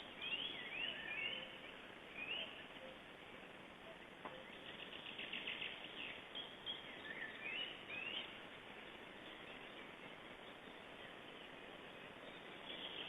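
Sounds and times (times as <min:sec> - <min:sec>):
bird calls: 0:00.0 - 0:13.0
steady background hiss: 0:00.0 - 0:13.0.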